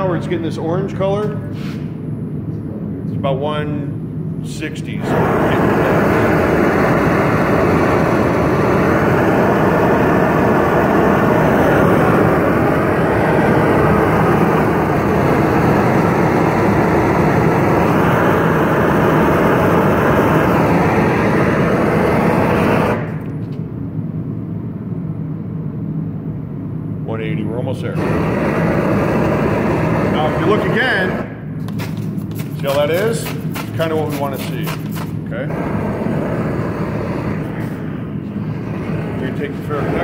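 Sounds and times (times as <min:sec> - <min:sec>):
gas torch flame burning: 0:04.4 - 0:23.8, 0:27.2 - 0:40.0.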